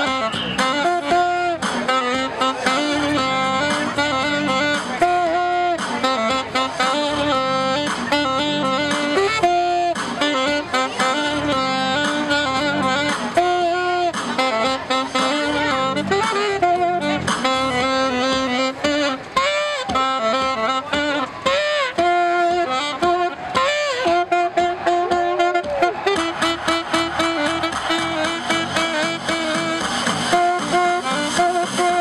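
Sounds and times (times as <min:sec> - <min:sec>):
jazzy instrumental music: 0:00.0 - 0:32.0
saxophone: 0:00.0 - 0:32.0.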